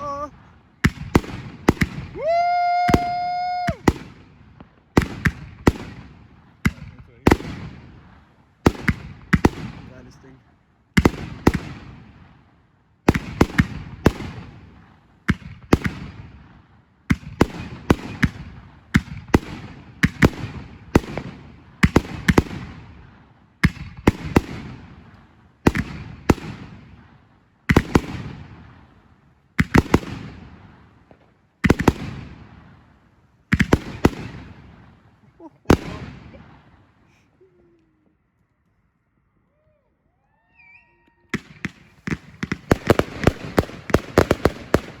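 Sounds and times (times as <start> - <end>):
fireworks bursting with echo: 0.0 - 37.7, 40.7 - 45.0.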